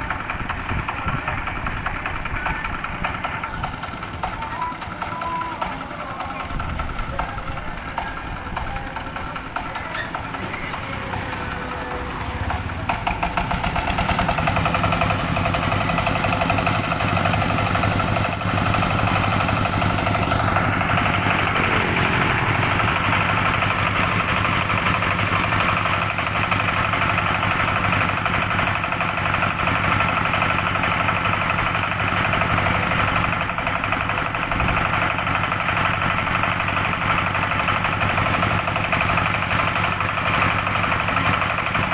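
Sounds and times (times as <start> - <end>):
threshing machine engine running: 0.0 - 41.9.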